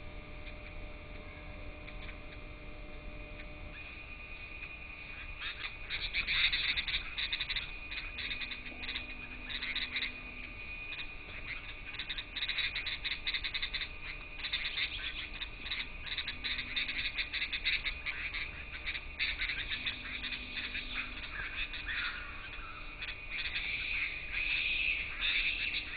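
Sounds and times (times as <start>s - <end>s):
faint steady high tone: 0.0s - 25.9s
birds chattering: 0.2s - 25.9s.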